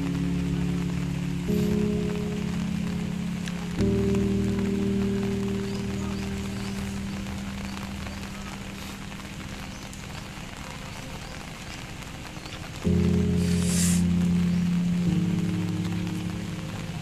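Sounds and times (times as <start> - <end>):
low background music chord: 0.0 - 10.8, 12.8 - 17.0
rain hissing on wet road: 0.0 - 17.0.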